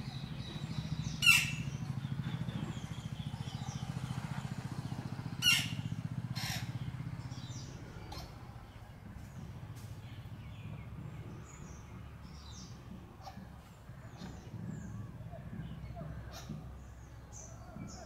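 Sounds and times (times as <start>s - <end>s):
low motor hum: 0.0s - 18.0s
small birds chirping: 0.0s - 18.0s.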